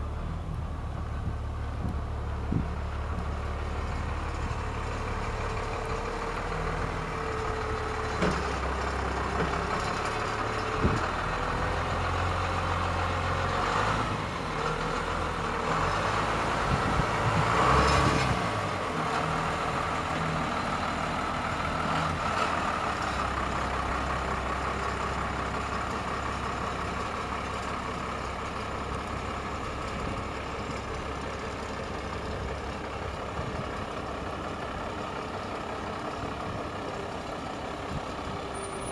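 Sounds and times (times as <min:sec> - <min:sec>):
bus engine idling: 0:00.0 - 0:38.9.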